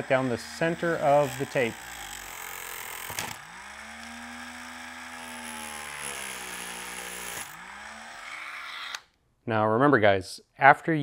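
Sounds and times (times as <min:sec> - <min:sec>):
rotary tool motor whine: 0:00.0 - 0:09.1.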